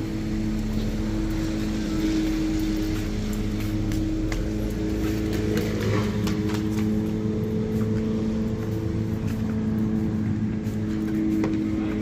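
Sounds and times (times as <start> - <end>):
footsteps on pavement: 0.0 - 12.0.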